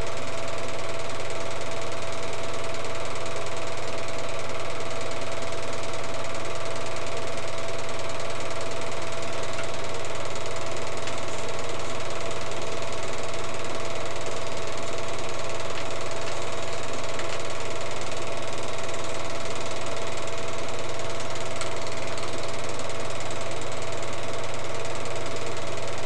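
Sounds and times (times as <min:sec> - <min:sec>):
film projector running: 0:00.0 - 0:26.0.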